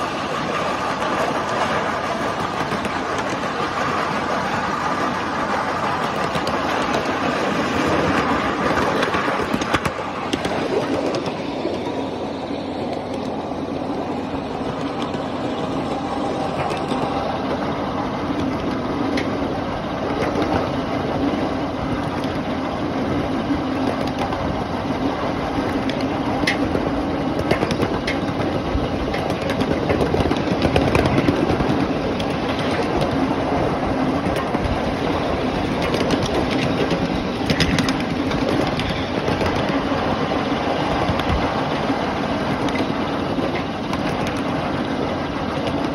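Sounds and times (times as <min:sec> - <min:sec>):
sharp track clicks: 0:00.0 - 0:45.9
train rumbling on track: 0:00.0 - 0:45.9.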